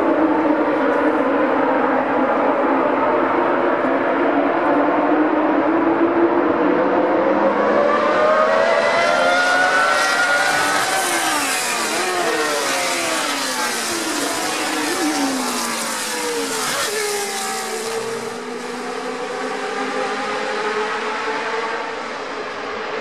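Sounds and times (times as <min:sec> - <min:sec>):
racing car engines revving: 0:00.0 - 0:23.0
racing engines downshifting: 0:00.0 - 0:23.0.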